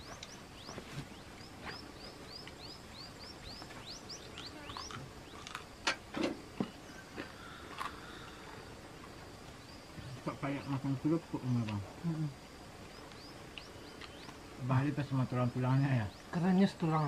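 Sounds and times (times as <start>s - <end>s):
bird chirping: 0.0s - 5.8s, 6.6s - 12.2s, 12.8s - 17.0s.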